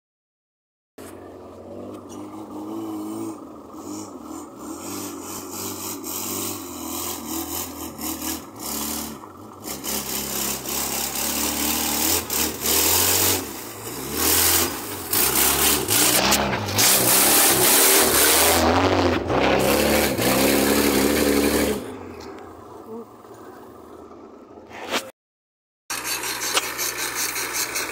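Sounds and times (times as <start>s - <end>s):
truck and off-road engines revving: 1.0s - 25.1s, 25.9s - 27.9s.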